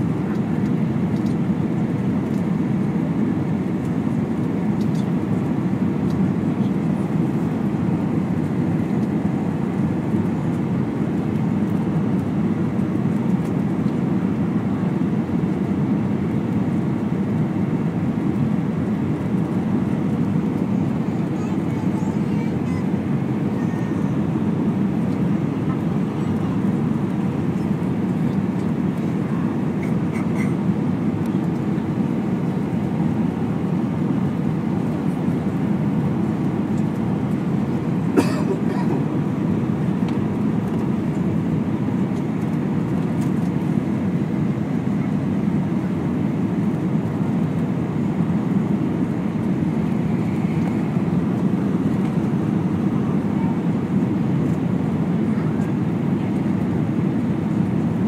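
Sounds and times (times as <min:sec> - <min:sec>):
airliner cabin noise: 0:00.0 - 0:58.0.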